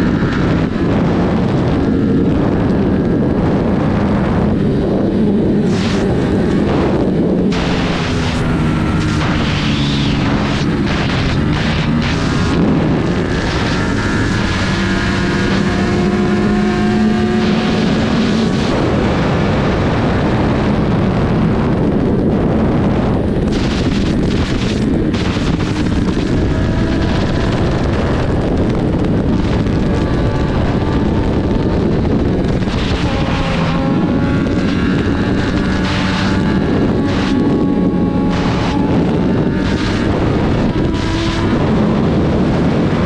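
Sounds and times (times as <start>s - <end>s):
motorcycle engine accelerating: 0.0s - 43.0s
wind rush on microphone: 0.0s - 43.0s.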